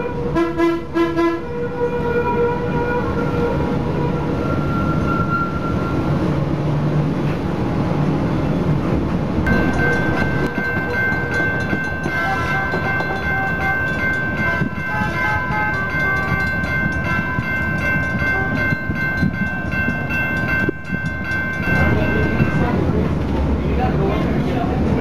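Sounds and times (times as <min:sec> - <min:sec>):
low streetcar rumble: 0:00.0 - 0:25.0.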